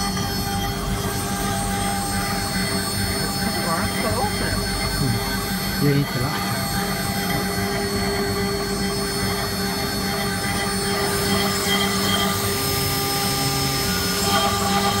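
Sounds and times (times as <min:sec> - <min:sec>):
router cutting wood: 0:00.0 - 0:15.0
router spindle whining: 0:00.0 - 0:15.0.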